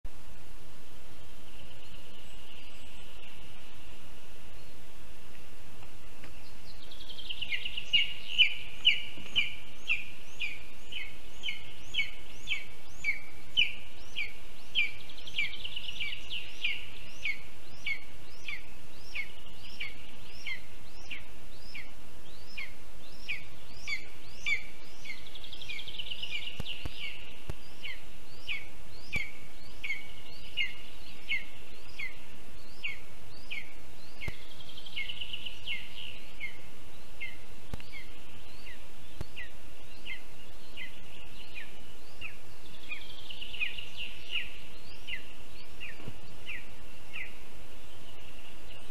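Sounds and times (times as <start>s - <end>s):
steady low hiss: 0.1s - 48.9s.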